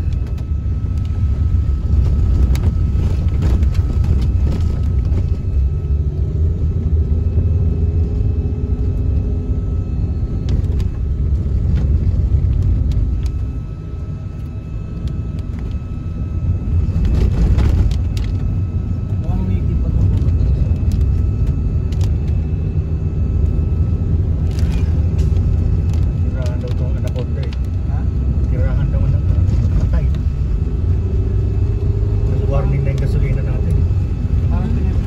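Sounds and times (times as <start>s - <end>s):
car engine rumble: 0.0s - 35.0s.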